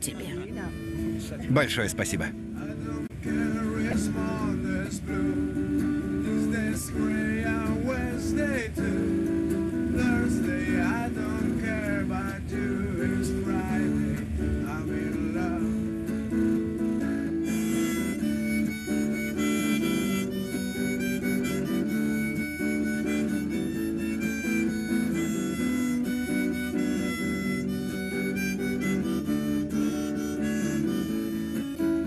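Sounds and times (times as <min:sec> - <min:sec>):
acoustic guitar: 0:00.0 - 0:32.0
harmonica melody: 0:00.0 - 0:32.0.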